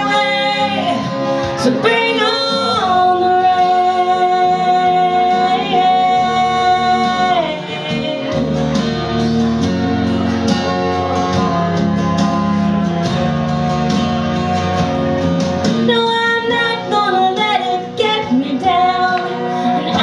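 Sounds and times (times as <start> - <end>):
country band guitar bass drums: 0.0 - 20.0.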